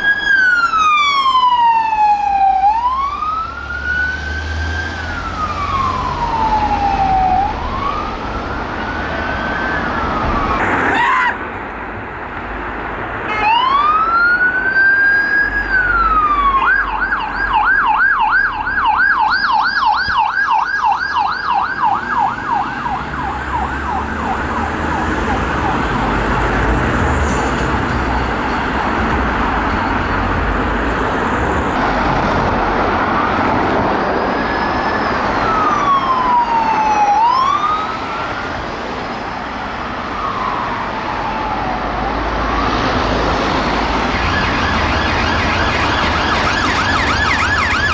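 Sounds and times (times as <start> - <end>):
police siren wailing and yelping: 0.0 - 11.5, 13.3 - 27.2, 32.0 - 47.9
road traffic noise: 0.0 - 47.9.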